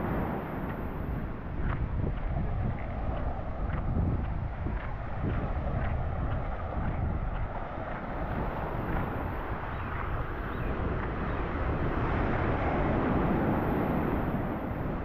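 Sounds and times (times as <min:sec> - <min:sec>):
surf breaking on beach: 0:00.0 - 0:15.0
wind rumbling on microphone: 0:00.0 - 0:15.0.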